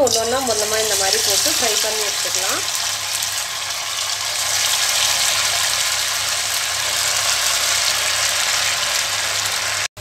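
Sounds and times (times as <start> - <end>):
fish deep-frying in oil: 0.0 - 10.0.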